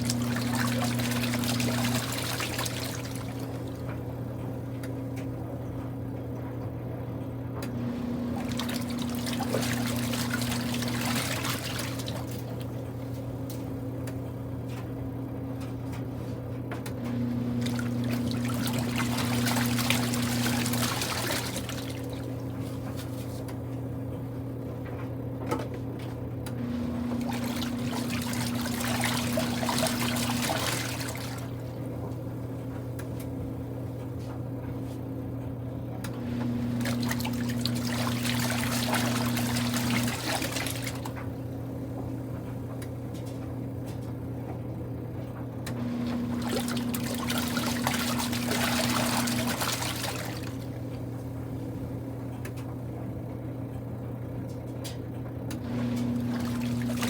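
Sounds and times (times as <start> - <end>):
steady low hum: 0.0 - 25.0, 26.2 - 57.0
washing machine churning water: 0.0 - 57.0.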